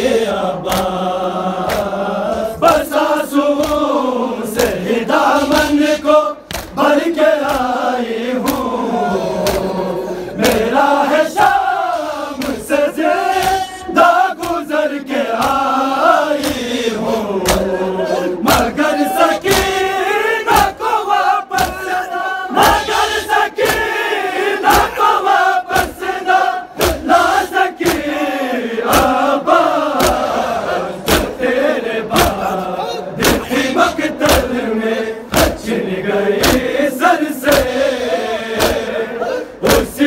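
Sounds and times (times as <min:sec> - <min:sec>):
crowd of men chanting: 0:00.0 - 0:40.0
hands slapping chests: 0:00.5 - 0:20.9, 0:21.5 - 0:22.0, 0:22.6 - 0:28.2, 0:28.8 - 0:31.4, 0:32.0 - 0:34.6, 0:35.3 - 0:35.7, 0:36.4 - 0:36.8, 0:37.4 - 0:37.8, 0:38.6 - 0:39.0, 0:39.6 - 0:40.0.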